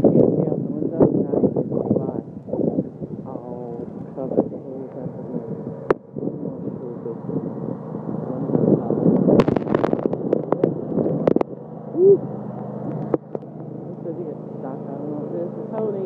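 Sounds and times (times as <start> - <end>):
lawn tractor engine running: 0.0 - 16.0
wind noise on microphone: 0.0 - 16.0.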